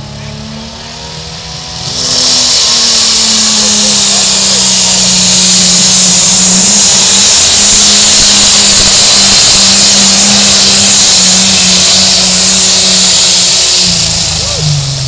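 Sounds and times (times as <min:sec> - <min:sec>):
tractor engine drone: 0:00.0 - 0:15.0.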